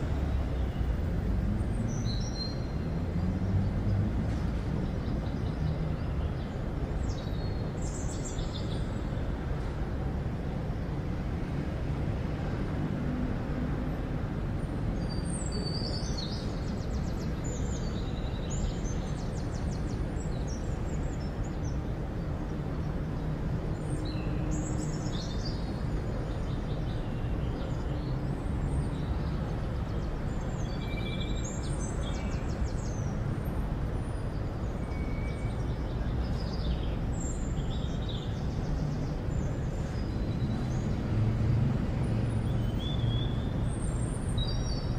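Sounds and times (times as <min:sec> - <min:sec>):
distant traffic rumble: 0:00.0 - 0:44.9.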